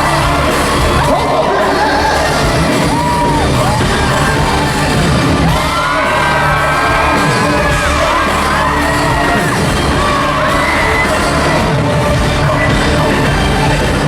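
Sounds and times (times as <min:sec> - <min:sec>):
crowd screaming and whooping: 0:00.0 - 0:14.0
loud amplified pop music: 0:00.0 - 0:14.0
person singing: 0:00.0 - 0:14.0.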